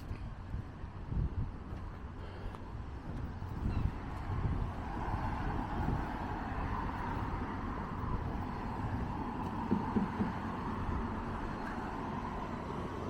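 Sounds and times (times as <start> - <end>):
road traffic noise: 0.0 - 13.0
vehicle engine rumble: 0.0 - 13.0.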